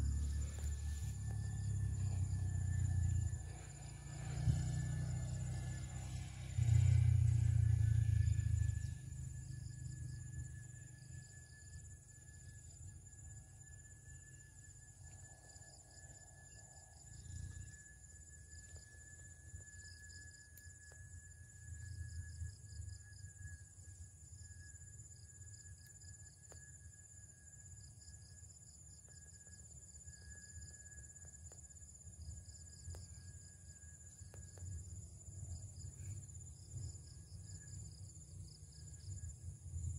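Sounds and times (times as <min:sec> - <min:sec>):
insects chirring: 0:00.0 - 0:39.9
pulsing insect trill: 0:00.0 - 0:39.9.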